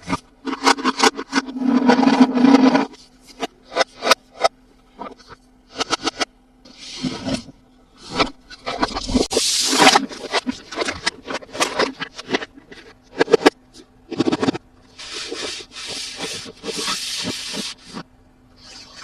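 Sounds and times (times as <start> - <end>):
plastic and cardboard scraping: 0.0 - 19.0.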